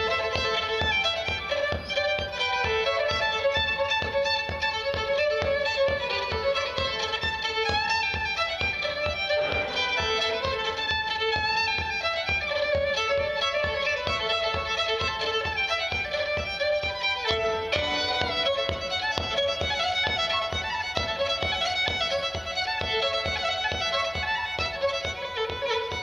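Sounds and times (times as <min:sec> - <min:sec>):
fast fiddle dance tune: 0:00.0 - 0:26.0.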